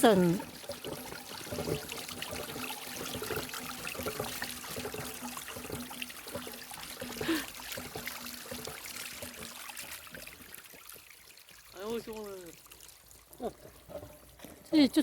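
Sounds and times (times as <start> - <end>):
meltwater trickling in stream: 0.0 - 15.0.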